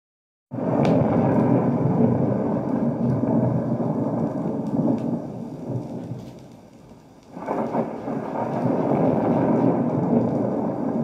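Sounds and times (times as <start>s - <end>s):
rain: 0.5s - 11.0s
thunder rolling: 0.5s - 11.0s.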